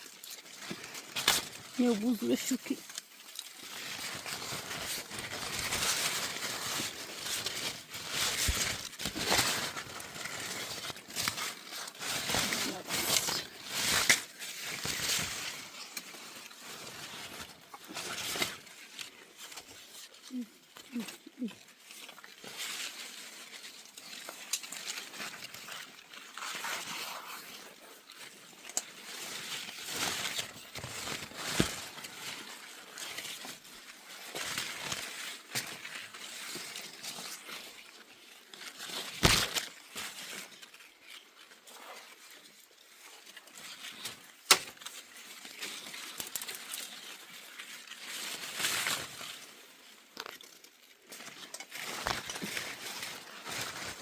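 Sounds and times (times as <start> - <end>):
leaves and twigs rustling: 0.0 - 54.0.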